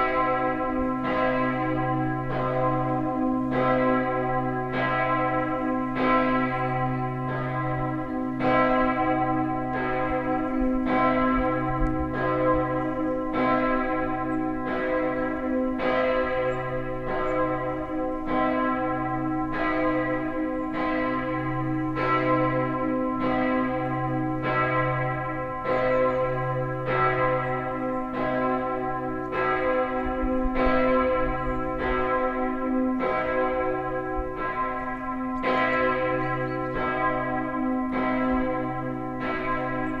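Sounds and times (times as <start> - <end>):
church bell ringing: 0.0 - 40.0.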